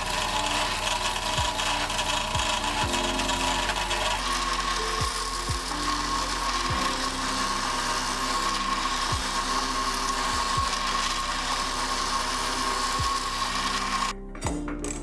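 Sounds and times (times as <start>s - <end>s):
power tool whining under load: 0.0s - 14.3s.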